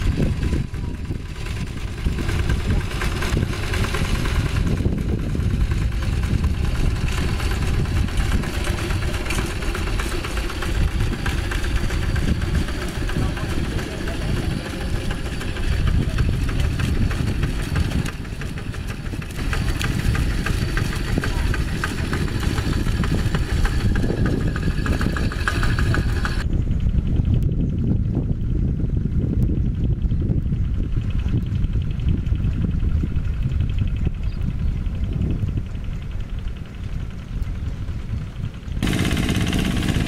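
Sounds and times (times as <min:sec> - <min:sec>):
wheels churning through water: 0:00.0 - 0:26.5, 0:30.9 - 0:40.0
diesel engine running under load: 0:00.0 - 0:40.0.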